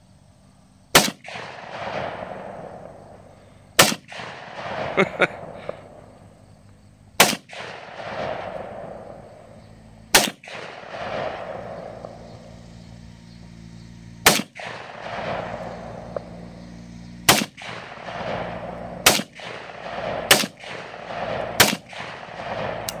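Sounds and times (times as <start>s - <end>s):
pistol shots with echo: 0.9s - 6.4s, 7.2s - 12.8s, 14.2s - 23.0s.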